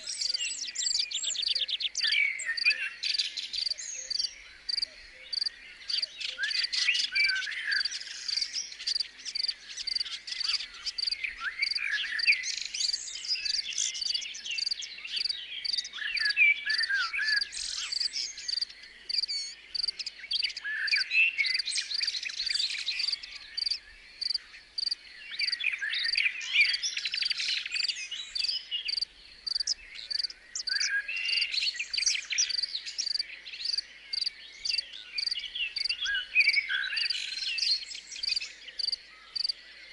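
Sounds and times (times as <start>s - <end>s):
birds singing: 0.0s - 39.9s
cricket chirping: 1.4s - 37.4s, 38.2s - 39.6s.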